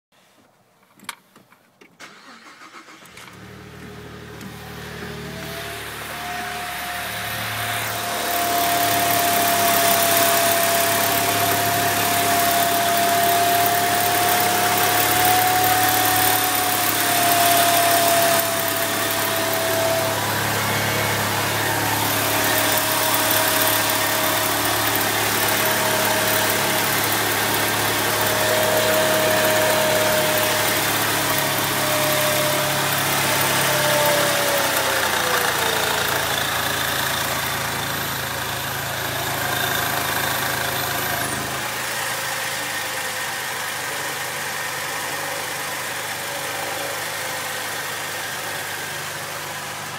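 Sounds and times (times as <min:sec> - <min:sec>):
car engine running: 0:02.1 - 0:49.9.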